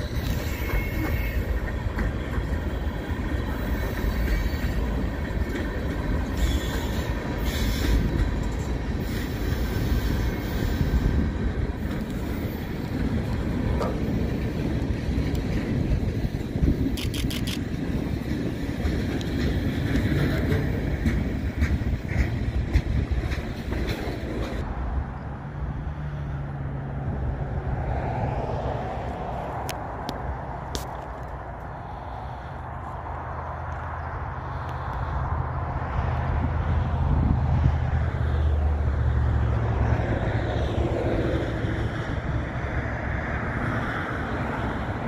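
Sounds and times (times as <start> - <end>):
train cars rolling on rails: 0.0 - 45.0.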